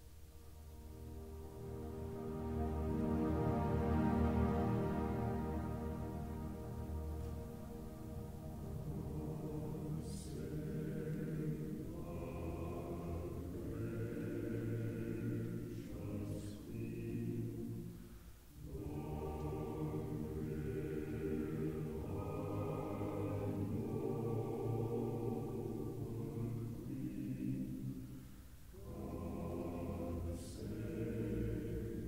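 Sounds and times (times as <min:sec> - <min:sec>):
choir singing sustained chords: 0:00.0 - 0:32.0.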